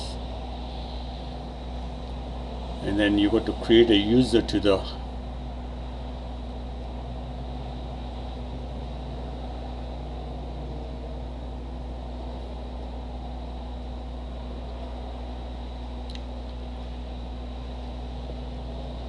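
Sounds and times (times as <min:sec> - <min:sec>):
room hum and hiss: 0:00.0 - 0:19.0.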